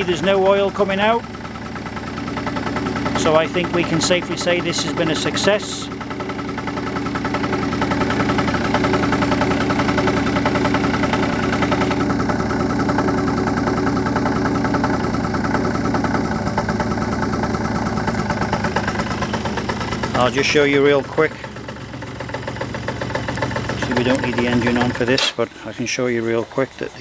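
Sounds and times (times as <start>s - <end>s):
scooter engine idling: 0.0s - 27.0s.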